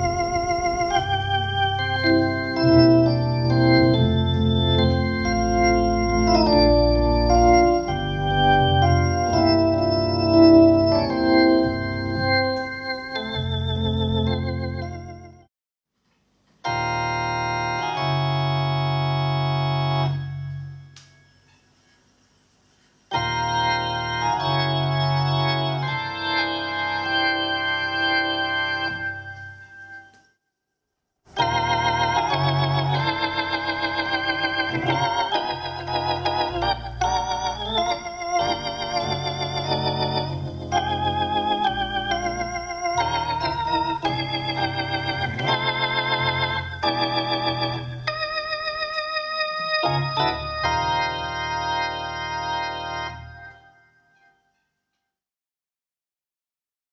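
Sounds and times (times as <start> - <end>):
organ chords wavering: 0.0 - 15.5, 16.6 - 21.6, 23.1 - 30.3, 31.3 - 54.4
sustained organ chord: 0.0 - 15.5, 16.6 - 22.2, 23.1 - 30.3, 31.3 - 54.5.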